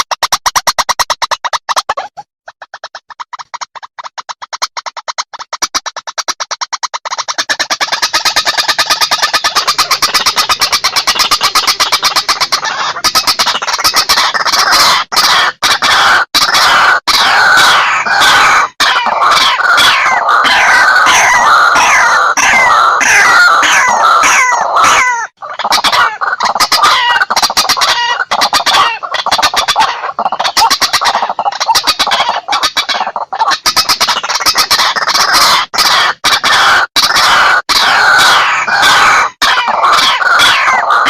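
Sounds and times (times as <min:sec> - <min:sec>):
bird clicking croaks: 0:00.0 - 0:41.0.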